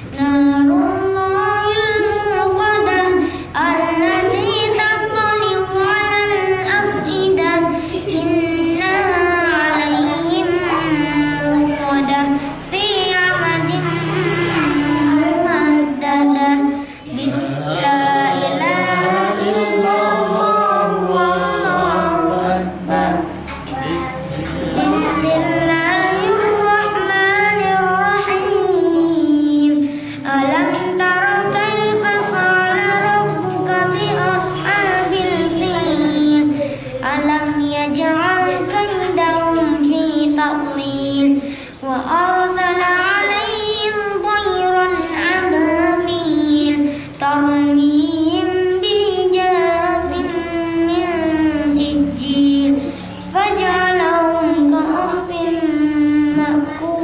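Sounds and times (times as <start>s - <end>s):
boy reciting melodically: 0.0s - 57.0s.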